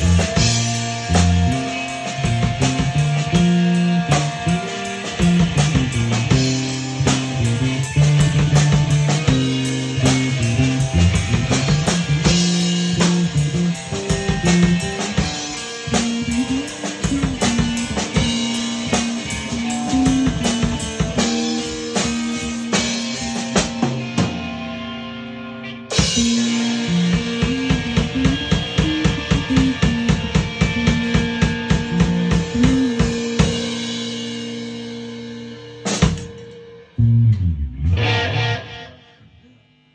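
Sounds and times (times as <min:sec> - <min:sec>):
drum kit beat: 0:00.0 - 0:24.6, 0:25.9 - 0:37.4
rock band playing: 0:00.0 - 0:39.1.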